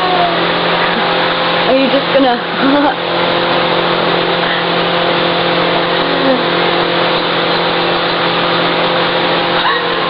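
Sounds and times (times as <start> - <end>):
mechanical hum: 0.0 - 10.0.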